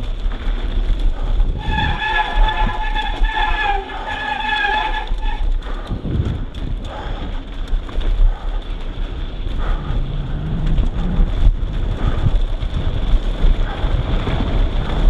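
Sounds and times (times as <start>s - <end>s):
bike rattling over bumps: 0.0s - 15.0s
tyres rolling over dirt trail: 0.0s - 15.0s
wind rushing over microphone: 0.0s - 15.0s.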